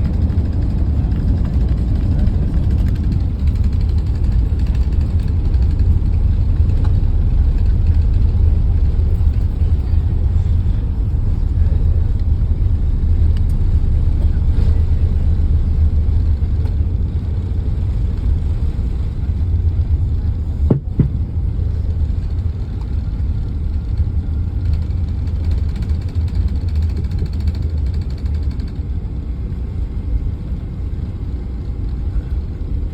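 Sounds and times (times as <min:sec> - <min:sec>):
vehicle rumble: 0:00.0 - 0:32.9.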